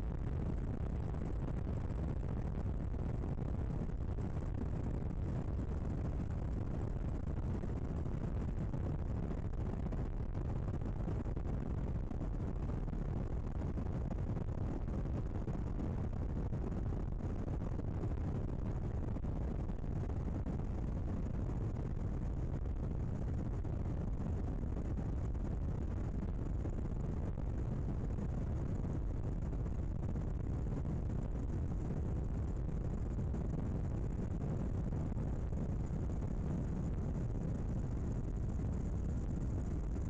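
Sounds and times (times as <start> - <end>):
aircraft rumble in flight: 0.0 - 40.0.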